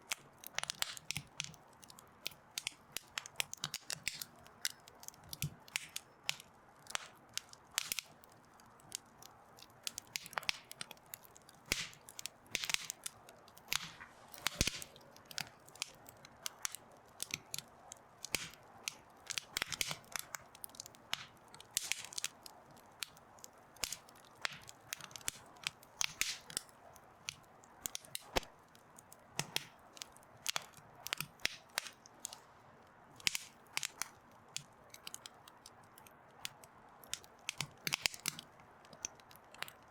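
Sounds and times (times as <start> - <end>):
low steady hiss: 0.0 - 39.9
wood fire crackling and popping: 0.0 - 39.9.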